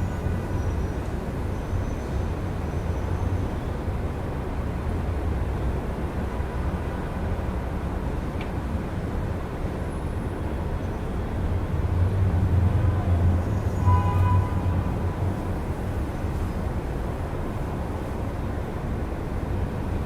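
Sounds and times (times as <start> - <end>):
traffic rumble of engines and tyres: 0.0 - 20.0.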